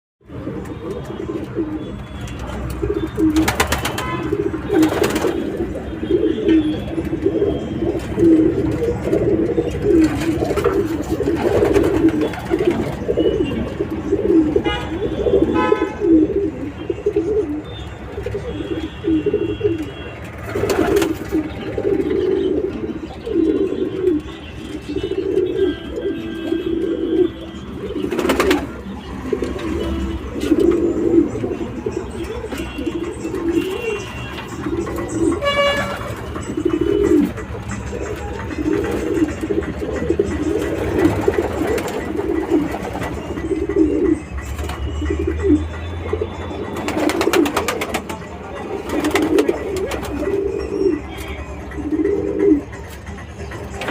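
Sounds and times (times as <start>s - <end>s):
pigeons cooing: 0.3s - 53.9s.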